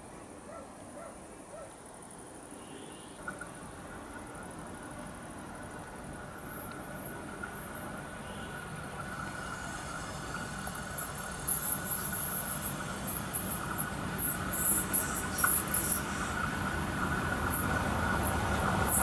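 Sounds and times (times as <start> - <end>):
insects chirping: 0.0 - 4.2, 5.0 - 19.0
diesel locomotive train rumble: 3.2 - 19.0.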